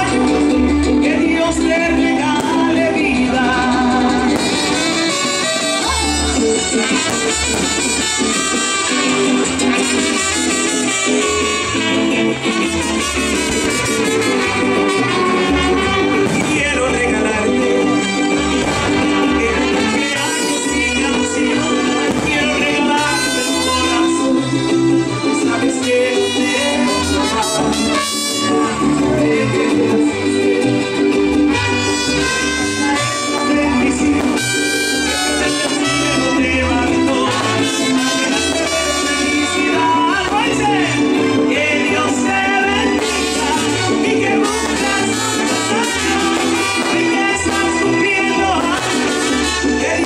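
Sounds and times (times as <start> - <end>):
low bass notes: 0.0 - 50.0
mariachi band playing: 0.0 - 50.0
strummed guitars: 0.0 - 50.0
trumpets playing melody: 0.0 - 50.0.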